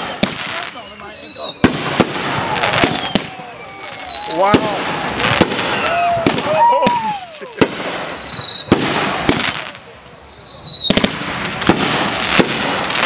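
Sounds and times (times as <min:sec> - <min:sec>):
firework bangs: 0:00.0 - 0:13.0
firework whistles falling in pitch: 0:00.0 - 0:13.0.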